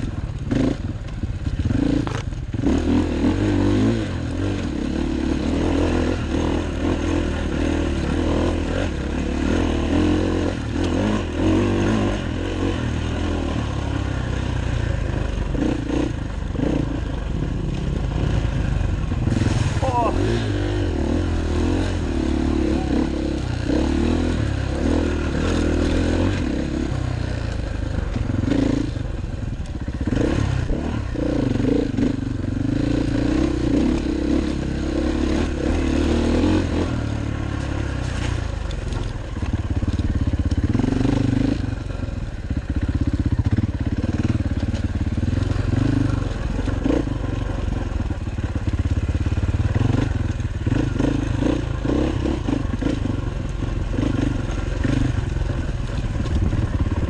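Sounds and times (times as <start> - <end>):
dirt bike engine revving: 0.4 - 57.0.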